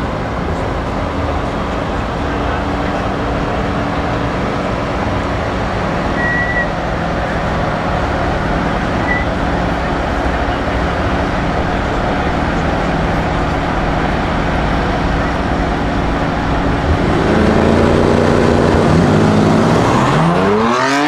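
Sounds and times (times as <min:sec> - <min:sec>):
car engines idling rumble: 0:00.0 - 0:20.6.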